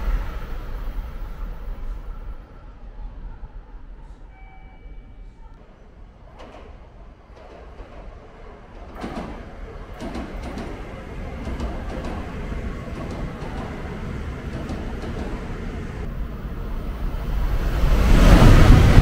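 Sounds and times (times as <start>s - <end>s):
train rushing past: 0.0s - 4.6s, 6.2s - 19.0s.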